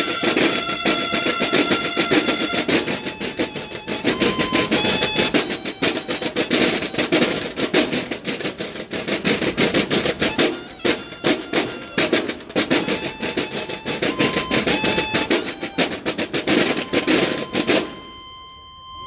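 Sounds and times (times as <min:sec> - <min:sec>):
marching snare drums: 0:00.0 - 0:18.6.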